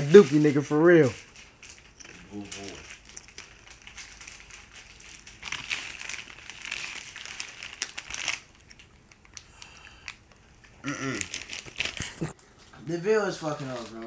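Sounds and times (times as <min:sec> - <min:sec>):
chip bag crinkling: 0:00.0 - 0:12.4, 0:13.4 - 0:14.0.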